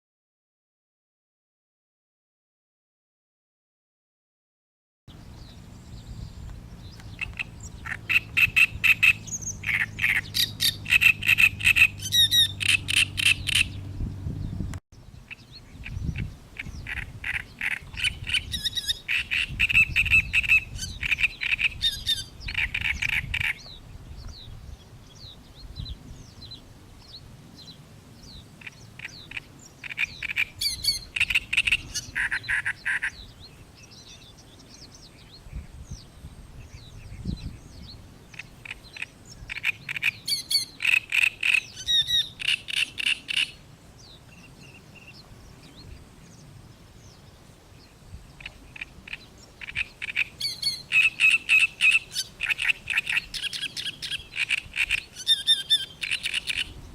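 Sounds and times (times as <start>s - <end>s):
bird song with grating notes: 5.1s - 56.9s.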